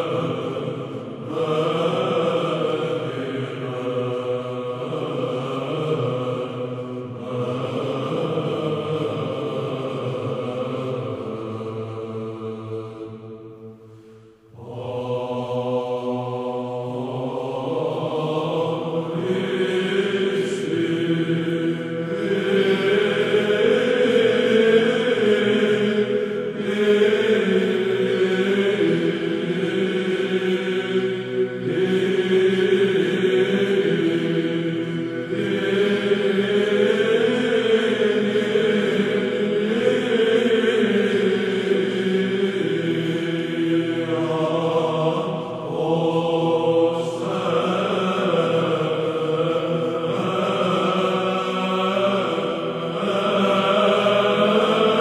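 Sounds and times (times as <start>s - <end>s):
choir chanting: 0.0s - 55.0s
low vocal drone: 0.0s - 55.0s.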